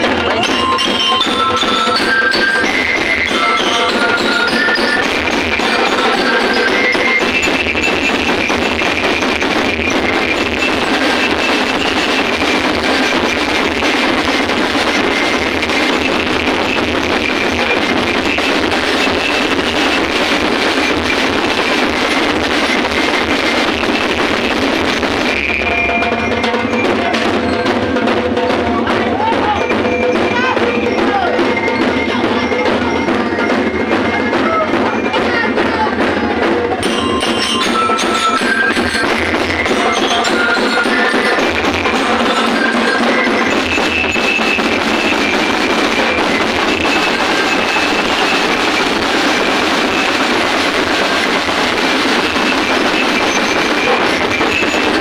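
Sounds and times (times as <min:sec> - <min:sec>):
dense steady din: 0:00.0 - 0:55.0
loud music with percussion: 0:00.0 - 0:55.0
voices: 0:00.0 - 0:55.0.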